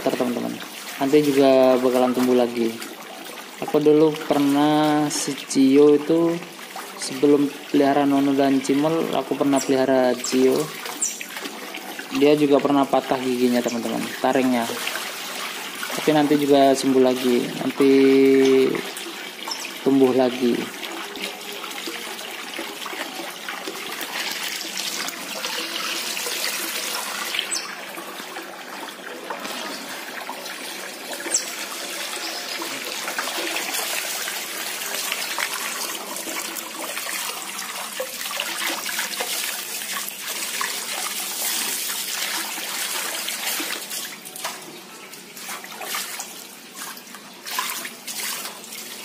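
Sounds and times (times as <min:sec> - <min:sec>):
otters splashing: 0:00.0 - 0:49.0
water pouring from hose into tub: 0:00.0 - 0:49.0.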